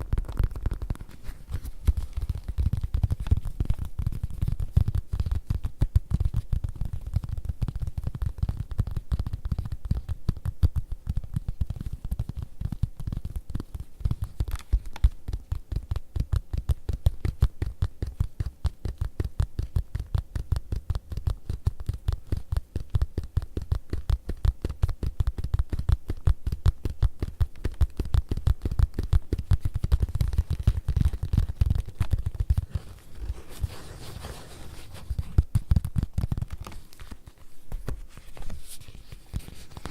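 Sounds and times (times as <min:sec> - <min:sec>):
fingertips tapping on leather: 0:00.0 - 0:39.9.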